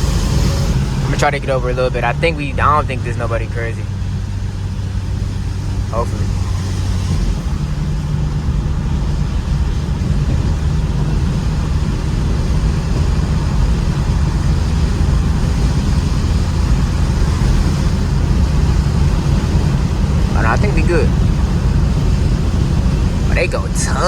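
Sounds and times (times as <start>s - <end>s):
car engine running: 0.0s - 24.0s
tyre noise on wet road: 0.0s - 24.0s.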